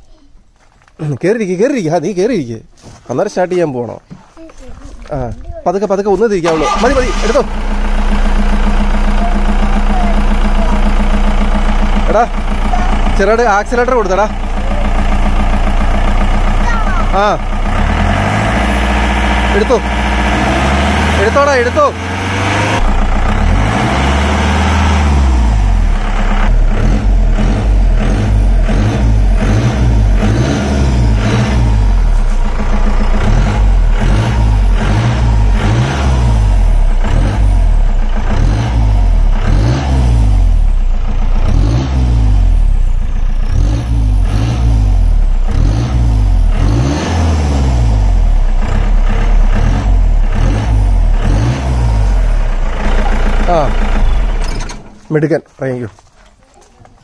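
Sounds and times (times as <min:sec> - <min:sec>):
jeep engine revving: 0:06.2 - 0:54.8.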